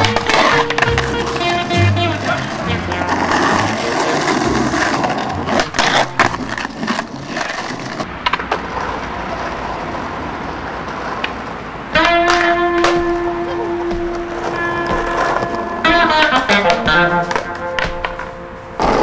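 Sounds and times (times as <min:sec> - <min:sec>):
skateboard clacks: 0:00.0 - 0:19.0
skateboard wheels rolling on asphalt: 0:00.0 - 0:19.0.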